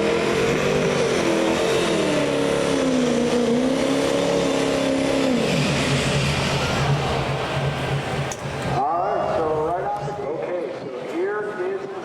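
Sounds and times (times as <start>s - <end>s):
pulling vehicle engine running hard: 0.0s - 10.6s.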